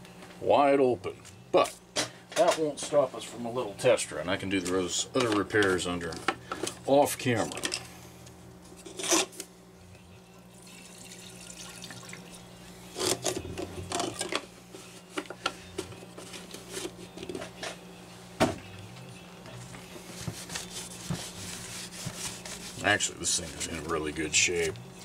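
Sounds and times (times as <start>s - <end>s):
steady low hum: 0.0s - 11.1s, 11.9s - 25.0s.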